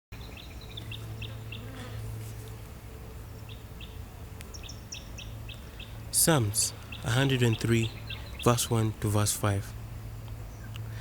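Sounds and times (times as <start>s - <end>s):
birds chirping: 0.2s - 11.0s
steady low hum: 0.2s - 11.0s.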